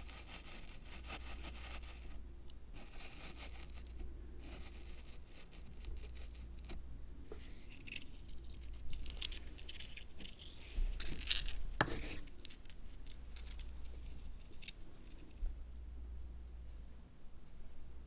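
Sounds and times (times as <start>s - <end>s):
small materials scratching and rustling: 0.0s - 15.4s.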